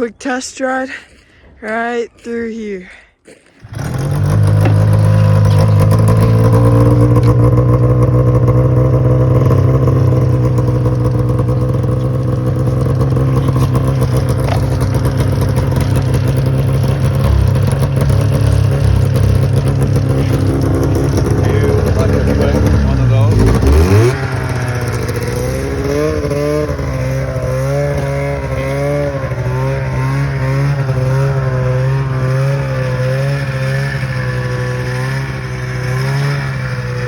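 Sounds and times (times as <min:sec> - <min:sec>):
snowmobile engine running: 0:03.4 - 0:37.0.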